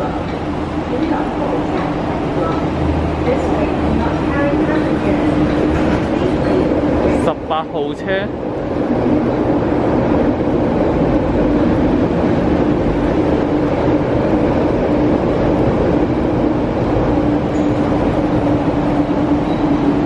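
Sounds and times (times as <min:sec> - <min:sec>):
constant hum: 0:00.0 - 0:20.0
train wheels rushing on rail: 0:00.0 - 0:20.0.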